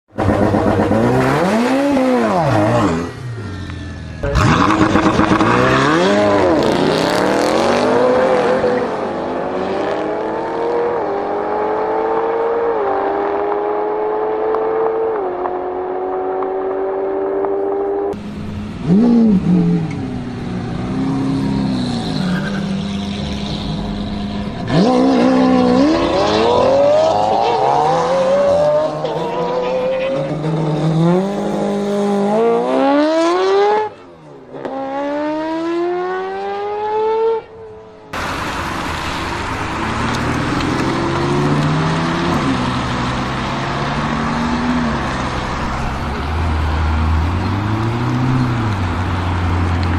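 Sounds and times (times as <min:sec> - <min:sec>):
car engines revving and accelerating: 0:00.1 - 0:49.9.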